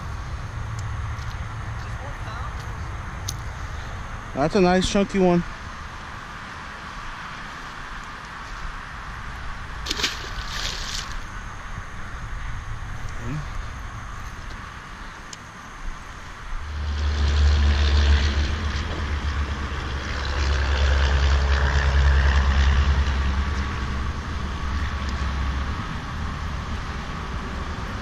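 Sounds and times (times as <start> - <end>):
vehicle engine rumbling: 0.0 - 28.0.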